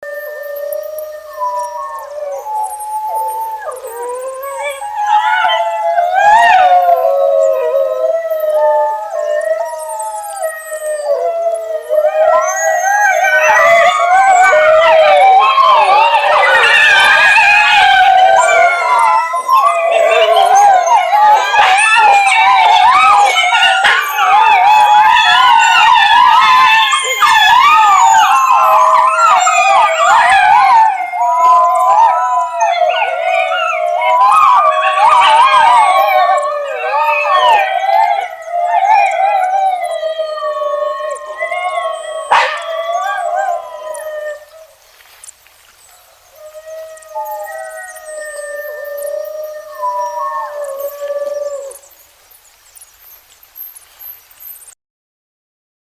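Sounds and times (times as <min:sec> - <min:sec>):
dogs howling: 0:00.0 - 0:44.8, 0:45.9 - 0:52.0.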